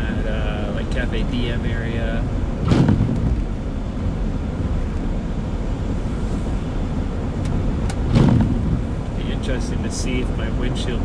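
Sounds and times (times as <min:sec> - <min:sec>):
tyre noise on wet road: 0:00.0 - 0:11.0.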